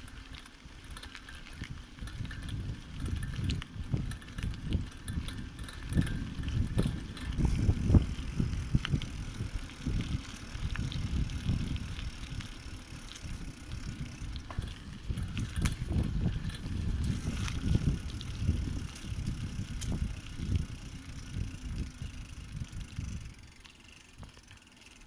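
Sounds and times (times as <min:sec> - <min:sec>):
bicycle clicks and rattles: 0:00.0 - 0:25.0
bicycle tyres rumbling on rough ground: 0:00.0 - 0:25.0.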